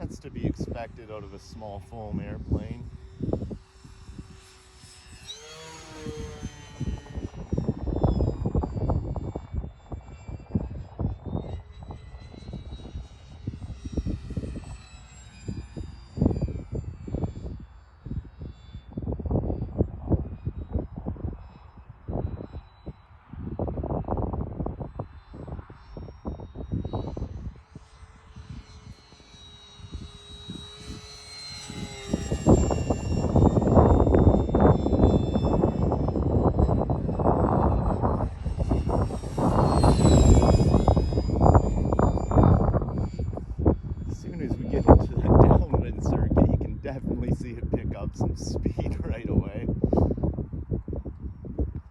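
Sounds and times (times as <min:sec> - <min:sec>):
model plane motor whine: 0:00.0 - 0:51.9
wind buffeting microphone: 0:00.0 - 0:51.9.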